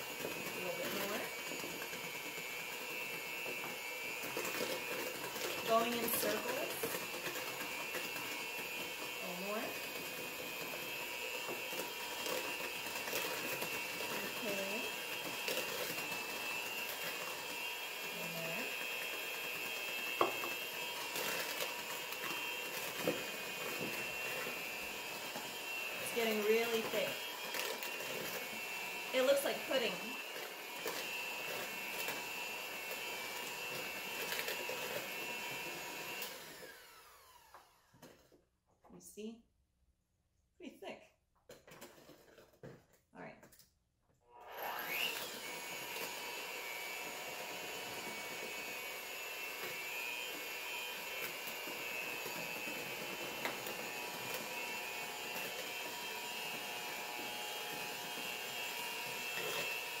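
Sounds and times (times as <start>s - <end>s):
mixer motor spinning down: 0.0s - 38.2s, 44.3s - 60.0s
electric hand mixer whirring: 0.0s - 38.4s, 44.3s - 60.0s.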